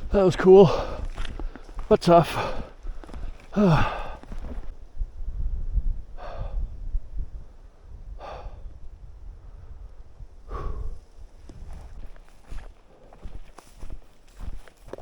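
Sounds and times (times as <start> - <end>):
man breathing hard: 0.0 - 4.7, 6.1 - 6.9, 7.9 - 14.5.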